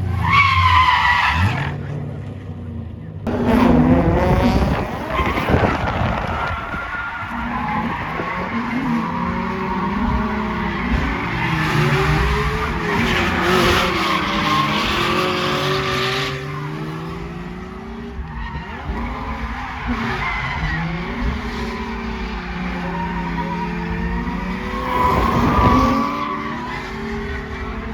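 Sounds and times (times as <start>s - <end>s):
tires squealing: 0.0s - 2.0s, 3.3s - 27.9s
car engine revving: 3.3s - 27.9s.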